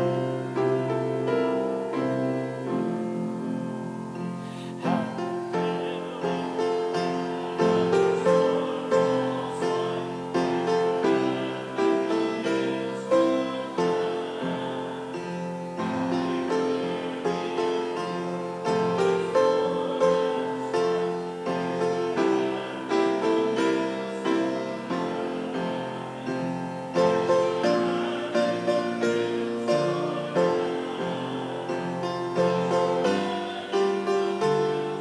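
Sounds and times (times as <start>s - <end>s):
piano playing hymn chords: 0.0s - 35.0s.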